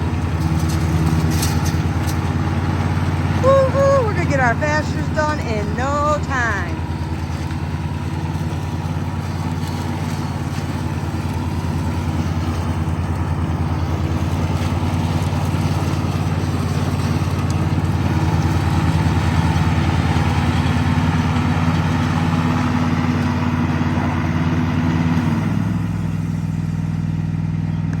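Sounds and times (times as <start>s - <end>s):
riding lawn mower engine: 0.0s - 28.0s.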